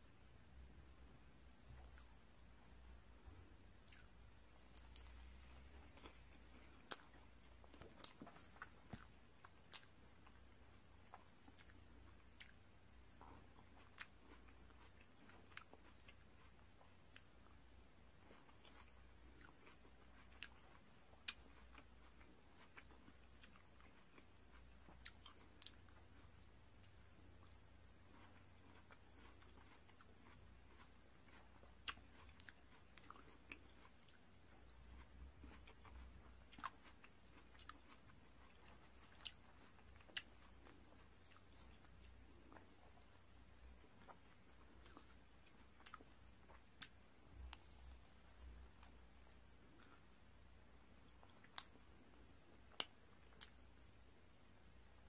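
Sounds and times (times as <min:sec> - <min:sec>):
person chewing bread: 0:00.0 - 0:55.0.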